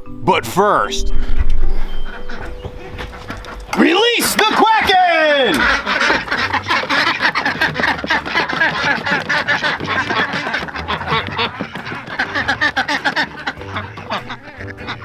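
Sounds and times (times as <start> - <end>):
ducks quacking: 1.8 - 15.0.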